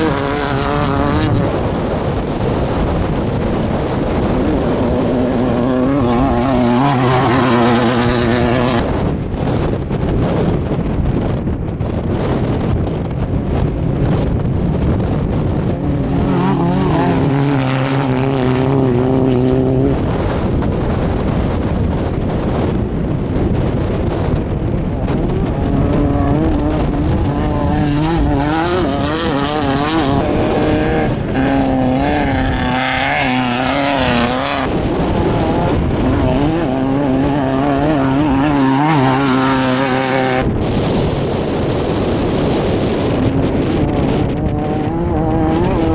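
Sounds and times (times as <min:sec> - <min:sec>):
race car engines running hard: 0:00.0 - 0:45.9.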